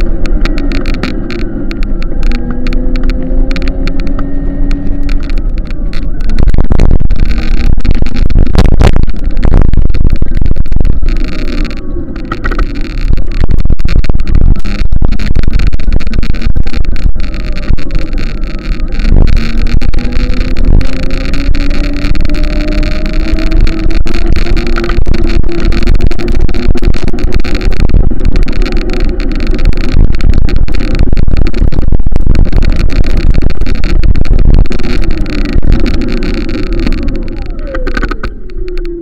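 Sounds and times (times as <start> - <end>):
loud rushing noise: 0.0 - 38.8
engine running: 0.0 - 39.0.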